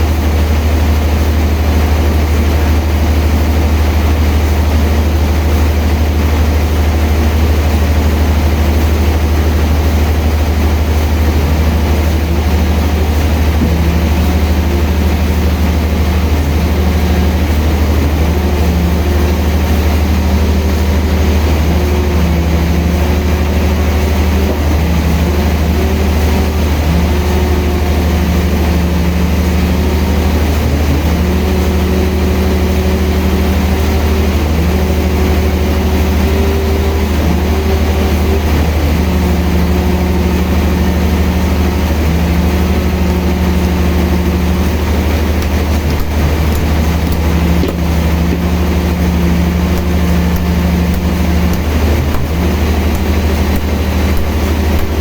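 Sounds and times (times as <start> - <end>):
sawmill engine drone: 0.0 - 55.0.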